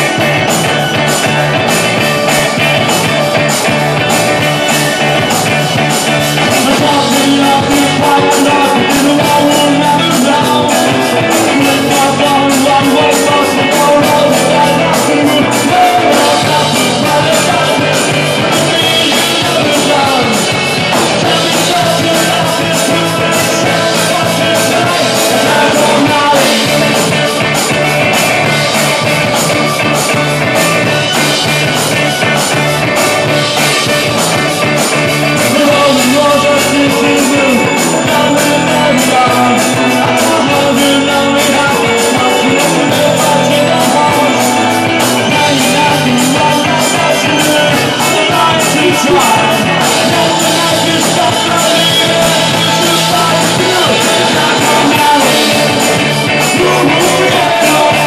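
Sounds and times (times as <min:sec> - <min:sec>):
live rock band: 0:00.0 - 0:58.0.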